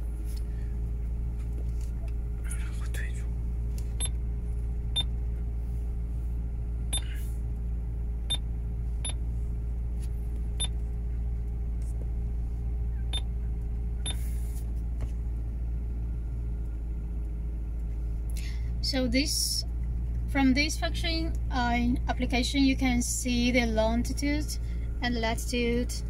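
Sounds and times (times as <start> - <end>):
car engine idling hum: 0.0 - 26.0.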